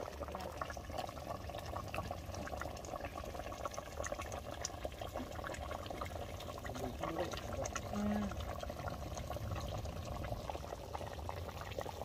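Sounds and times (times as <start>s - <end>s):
gravy bubbling in a pot: 0.0s - 12.0s.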